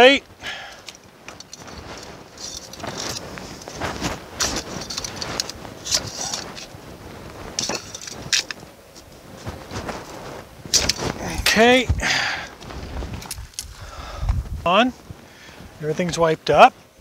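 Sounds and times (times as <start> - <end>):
hands rustling and scraping: 0.7 - 16.8.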